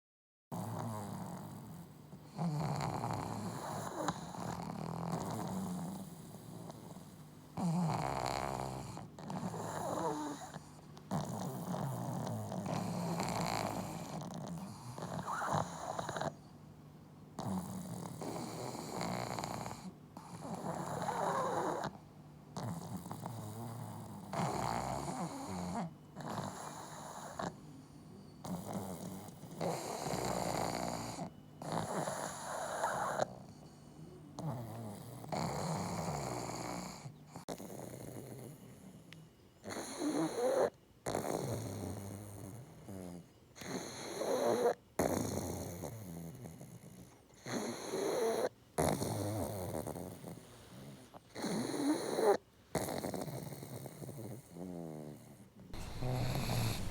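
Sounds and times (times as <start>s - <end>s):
dog snoring loudly: 0.5s - 16.4s, 17.3s - 27.7s, 28.4s - 56.9s.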